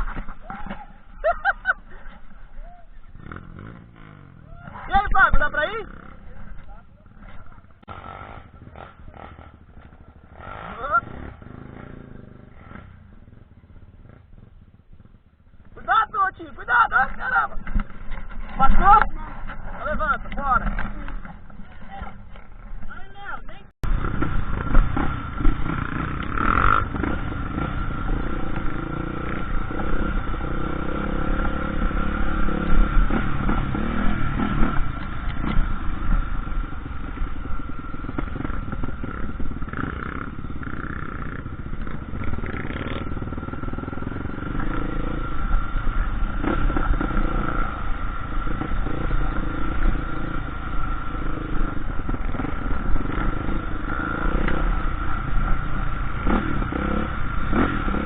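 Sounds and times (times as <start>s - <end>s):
dirt bike engine revving: 0.0s - 22.8s, 23.8s - 58.0s.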